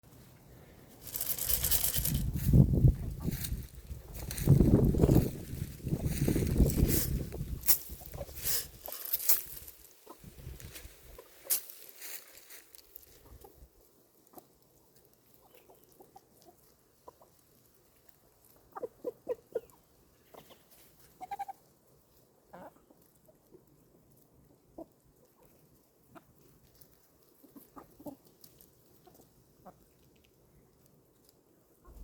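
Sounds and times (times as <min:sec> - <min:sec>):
chickens clucking: 0:01.1 - 0:12.1, 0:13.1 - 0:30.2, 0:31.8 - 0:32.0.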